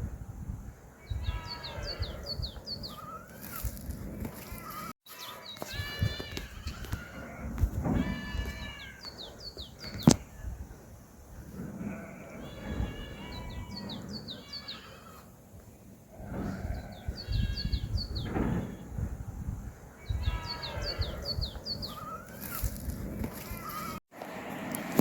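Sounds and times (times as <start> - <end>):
birds chirping: 0.8 - 10.6, 11.3 - 19.0, 19.8 - 24.0.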